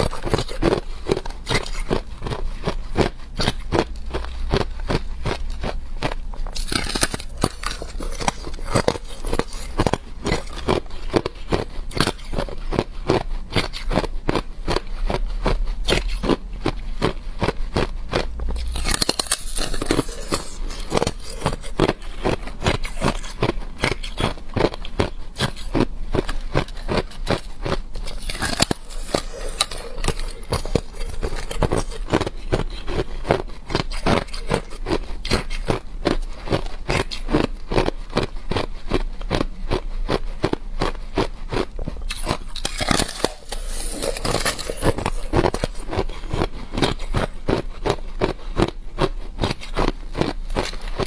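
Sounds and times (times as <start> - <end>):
ice being chewed: 0.0 - 51.0.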